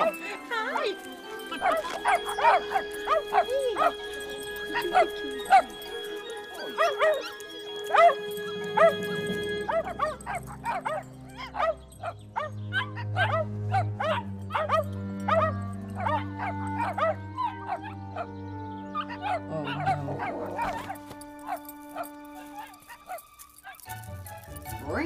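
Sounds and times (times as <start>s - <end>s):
puppies yipping and barking: 0.0s - 24.8s
background music with low notes: 0.0s - 25.0s.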